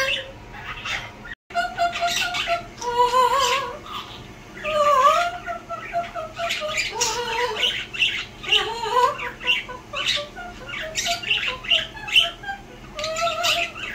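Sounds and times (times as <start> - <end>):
parrot singing off-key tune: 0.0 - 13.9
parrot squawking and chirping: 0.0 - 13.9.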